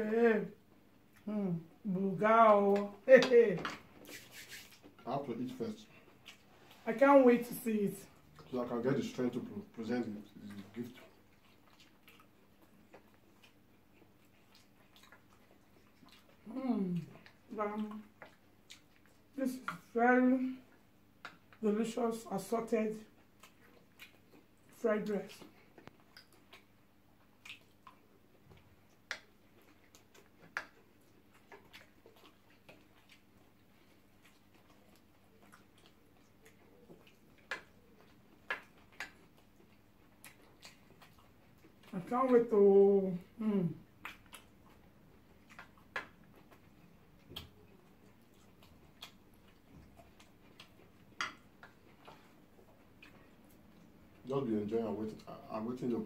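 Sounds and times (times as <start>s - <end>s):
chewing: 0.5s - 1.8s, 2.6s - 56.0s.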